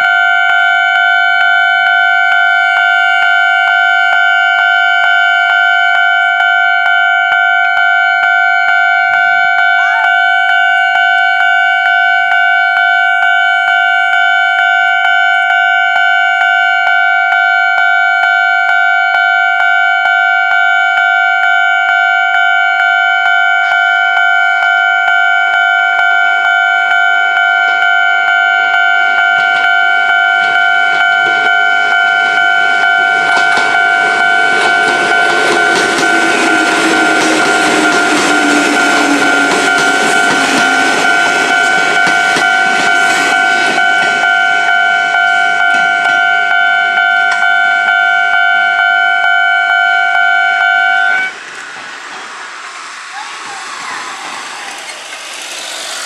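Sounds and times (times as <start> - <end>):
approaching train: 0.2 - 56.0.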